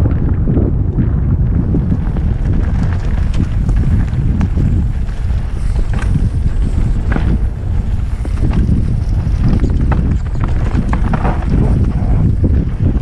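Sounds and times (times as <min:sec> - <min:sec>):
bike clicks and rattles: 0:00.0 - 0:13.0
tyres rumbling on dirt trail: 0:00.0 - 0:13.0
wind buffeting microphone: 0:00.0 - 0:13.0.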